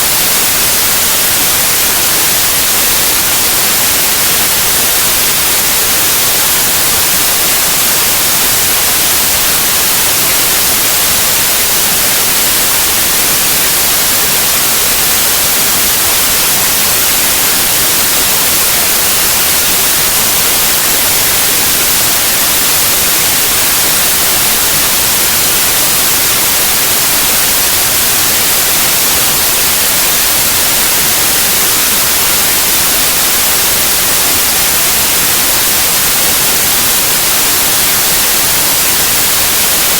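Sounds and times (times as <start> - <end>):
loud white noise: 0.0 - 39.9.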